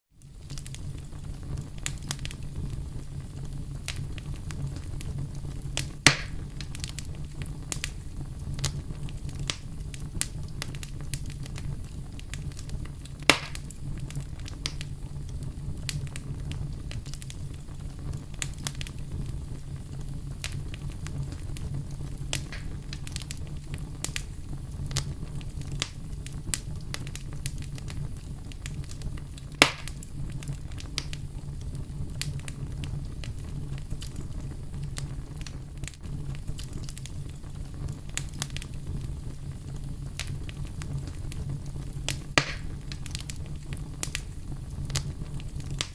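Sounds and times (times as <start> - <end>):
wood fire crackling: 0.1 - 45.9
loud fire pops: 0.2 - 45.9.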